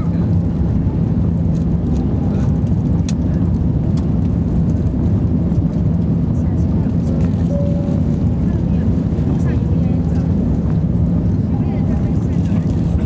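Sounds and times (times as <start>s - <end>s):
airliner cabin roar: 0.0s - 13.0s
constant hum: 0.0s - 13.0s.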